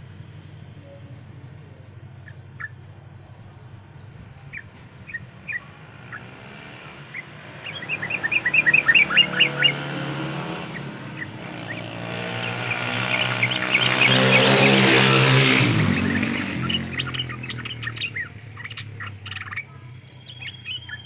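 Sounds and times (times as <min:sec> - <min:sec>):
bird chirping: 0:00.0 - 0:21.0
vehicle engine passing by: 0:04.0 - 0:21.0.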